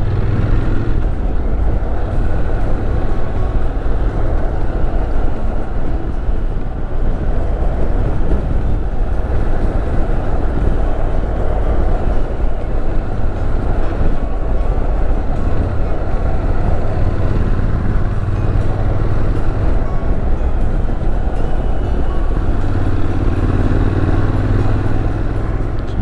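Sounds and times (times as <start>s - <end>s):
motorcycle engine: 0.0s - 26.0s
wind rush: 0.0s - 26.0s.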